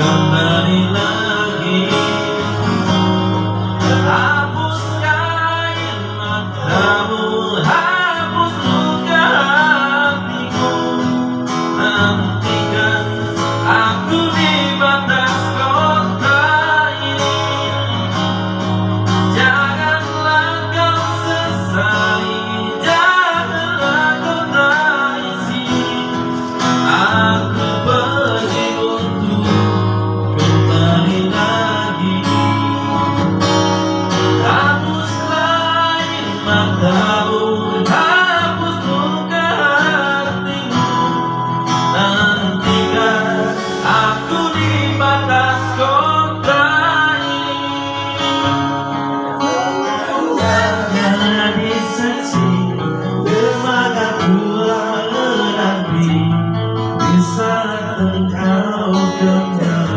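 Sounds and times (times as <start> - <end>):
guitar: 0.0 - 59.9
man singing: 0.0 - 59.9.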